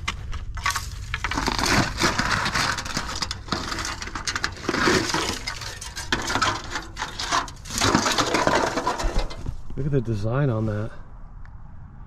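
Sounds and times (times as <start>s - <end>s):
dry debris crunching: 0.0s - 10.5s.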